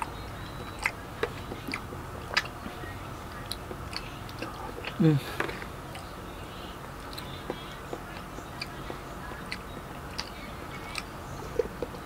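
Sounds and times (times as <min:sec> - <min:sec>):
person chewing and smacking: 0:00.0 - 0:06.2, 0:06.8 - 0:12.0
low steady hum: 0:00.0 - 0:12.0.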